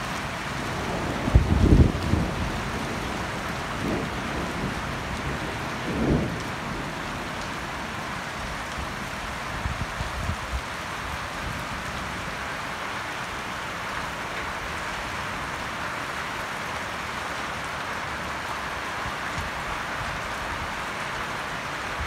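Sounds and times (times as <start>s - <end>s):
rain on pavement and plants: 0.0s - 22.0s.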